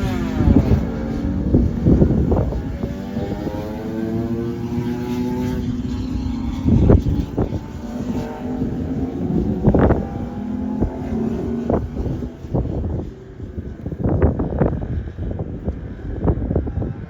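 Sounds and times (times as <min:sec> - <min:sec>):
motorcycle engines racing: 0:00.0 - 0:17.0
wind gusts on microphone: 0:00.0 - 0:17.0.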